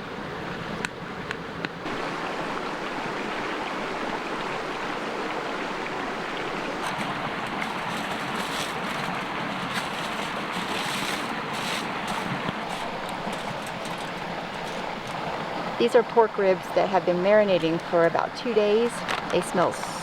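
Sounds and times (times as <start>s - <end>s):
water rushing over rocks: 0.1s - 20.0s.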